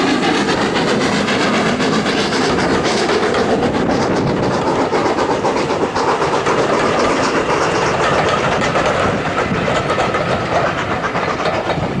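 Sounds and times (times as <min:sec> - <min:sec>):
steam train wheels clattering: 0:00.0 - 0:12.0.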